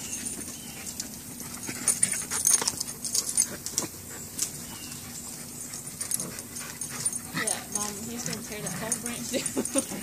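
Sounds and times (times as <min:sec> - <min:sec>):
dogs scuffling and rustling: 0:00.0 - 0:10.0.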